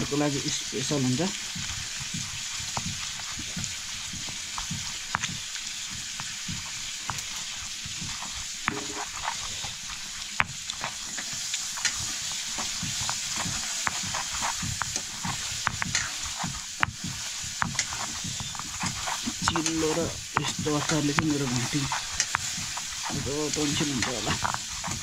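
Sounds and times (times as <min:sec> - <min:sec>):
steady hiss: 0:00.0 - 0:25.0
wet squishing: 0:00.7 - 0:25.0
stone pestle grinding on stone: 0:01.0 - 0:25.0.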